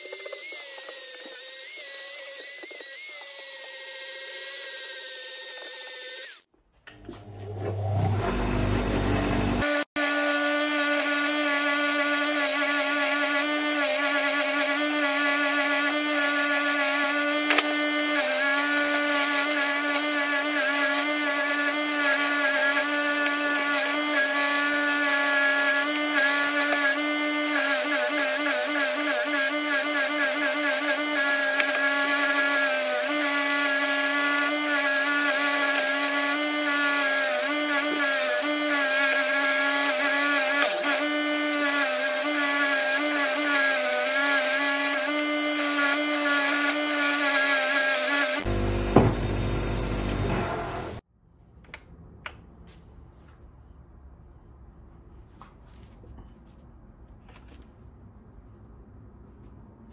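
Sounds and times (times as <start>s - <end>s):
bench grinder motor hum: 0.0s - 51.0s.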